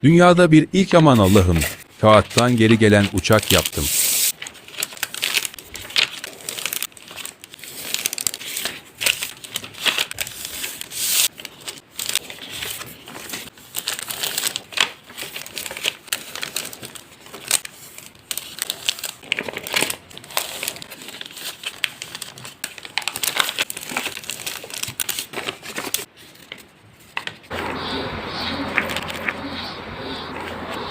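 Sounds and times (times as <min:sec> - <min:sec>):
paper crinkling and creasing: 0:01.0 - 0:30.9.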